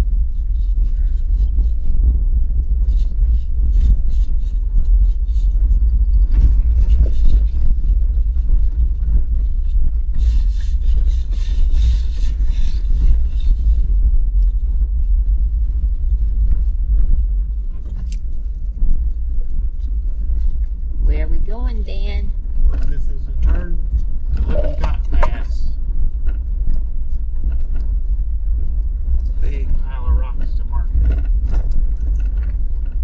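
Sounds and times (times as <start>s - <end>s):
vehicle rumbling on dirt road: 0.0s - 33.0s.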